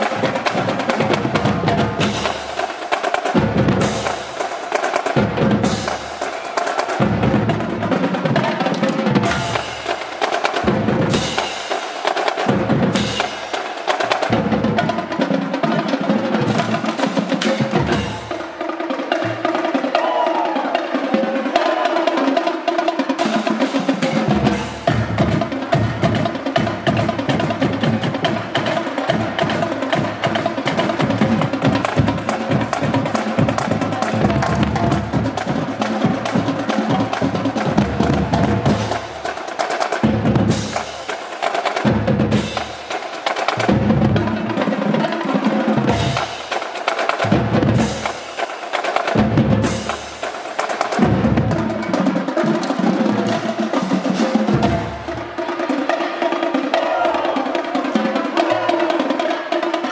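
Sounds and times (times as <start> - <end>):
drumming: 0.0 - 59.9
marching band playing: 0.0 - 59.9.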